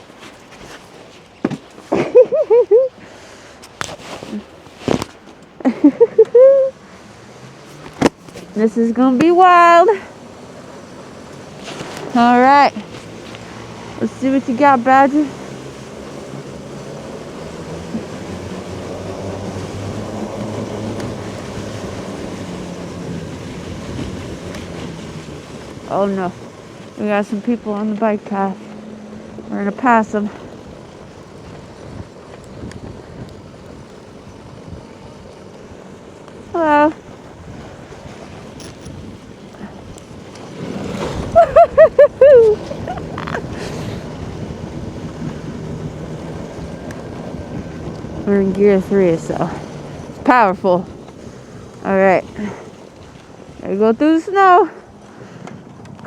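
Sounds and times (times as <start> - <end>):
wind over microphone: 0.0 - 56.0
electric atv driving: 1.6 - 56.0.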